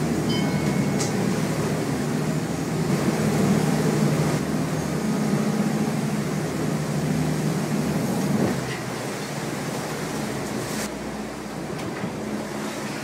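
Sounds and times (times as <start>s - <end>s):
boat engine droning: 0.0s - 13.0s
rushing water noise: 0.0s - 13.0s.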